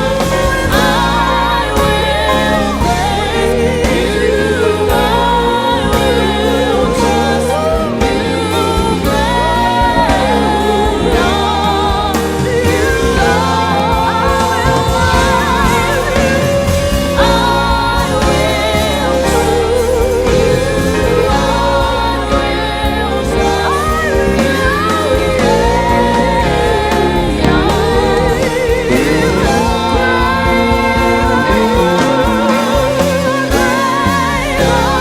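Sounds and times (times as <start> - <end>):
band with steady bass: 0.0 - 35.0
singers holding vibrato notes: 0.0 - 35.0.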